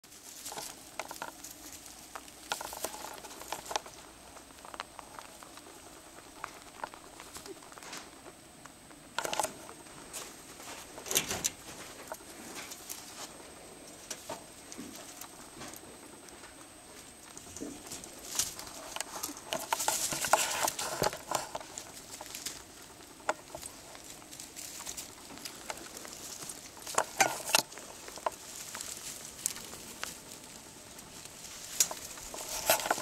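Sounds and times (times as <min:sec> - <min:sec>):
rabbits scrabbling and rustling: 0:00.0 - 0:33.0.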